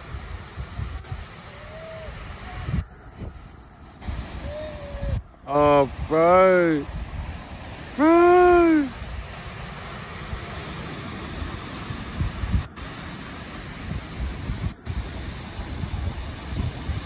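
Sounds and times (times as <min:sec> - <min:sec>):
wind buffeting microphone: 0:00.0 - 0:06.2, 0:06.8 - 0:17.0.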